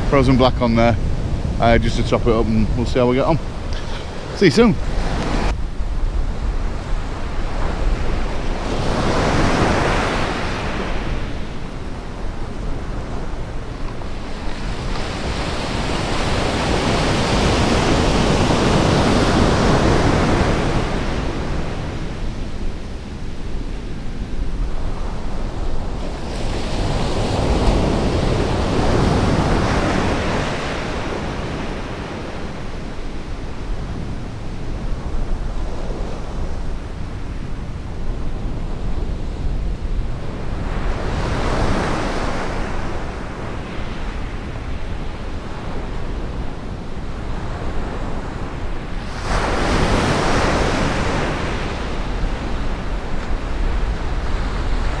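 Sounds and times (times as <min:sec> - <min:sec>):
surf breaking on sand beach: 0:00.0 - 0:55.0
wind rumbling on microphone: 0:00.0 - 0:55.0.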